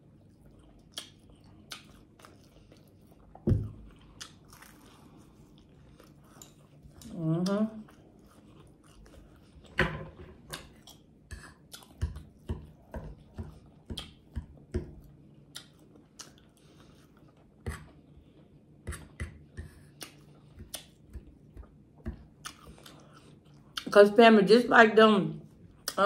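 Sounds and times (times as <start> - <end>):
chewing and lip smacking: 0.0 - 9.8, 10.4 - 24.0, 25.5 - 26.0.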